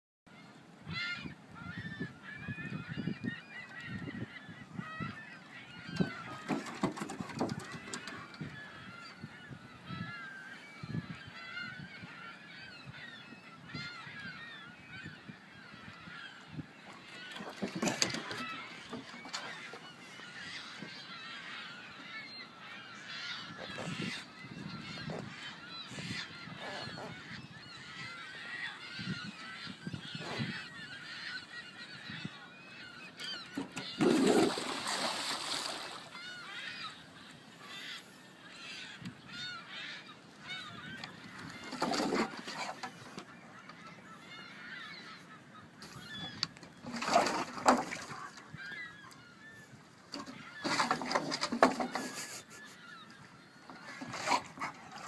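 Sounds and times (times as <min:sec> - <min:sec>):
honking bird calls: 0:00.9 - 0:55.0.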